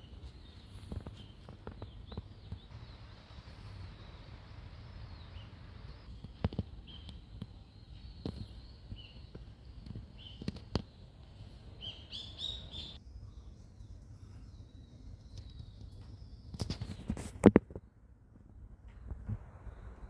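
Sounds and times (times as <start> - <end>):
small bird chirping: 0.0 - 17.4.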